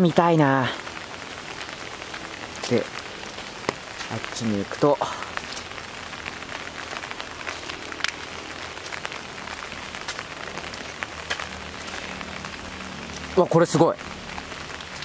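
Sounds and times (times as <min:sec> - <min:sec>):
steady rain: 0:00.0 - 0:15.0
drops ticking on an umbrella: 0:01.6 - 0:15.0.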